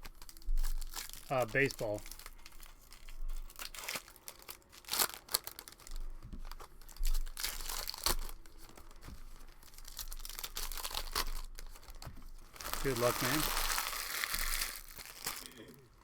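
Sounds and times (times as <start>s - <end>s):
plastic wrappers tearing and crinkling: 0.0s - 16.0s.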